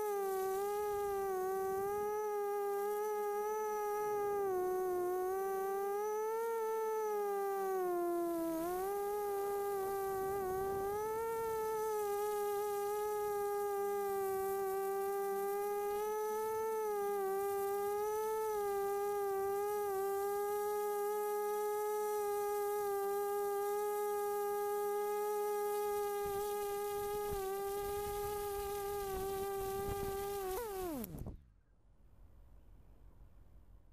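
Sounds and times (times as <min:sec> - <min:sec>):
drone motors buzzing: 0:00.0 - 0:31.4.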